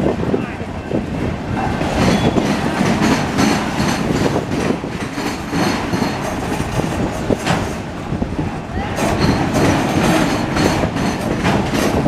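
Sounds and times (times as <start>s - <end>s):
freight train rumble: 0.0s - 12.0s
wheel clatter over rails: 1.1s - 12.0s.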